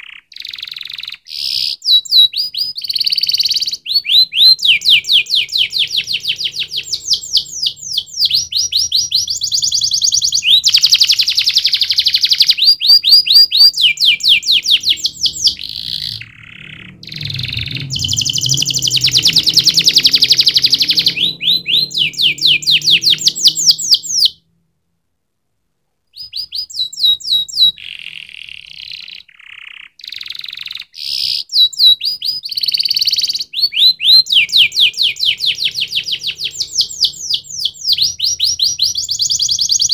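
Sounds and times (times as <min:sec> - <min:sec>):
canary singing trills: 0:00.0 - 0:24.4, 0:26.1 - 0:39.9.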